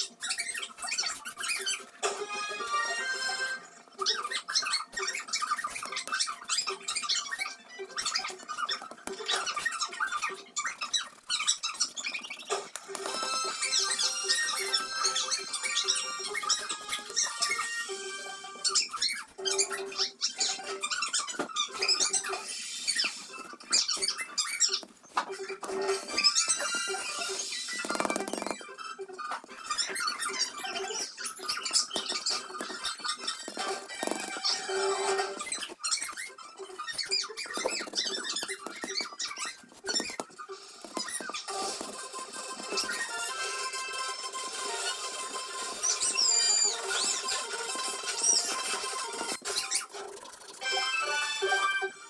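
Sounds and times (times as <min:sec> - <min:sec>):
chalk squeaking on blackboard: 0:00.0 - 0:18.0, 0:18.6 - 0:50.6.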